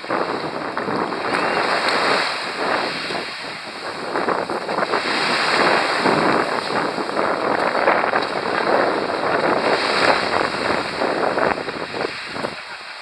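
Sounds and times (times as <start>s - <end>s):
wind buffeting microphone: 0.0s - 12.8s
small waves washing on beach: 0.0s - 13.0s.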